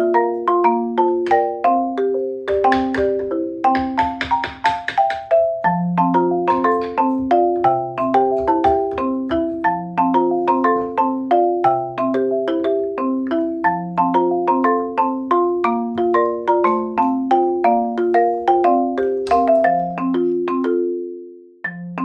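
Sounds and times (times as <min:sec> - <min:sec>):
bouncy marimba tune: 0:00.0 - 0:22.0.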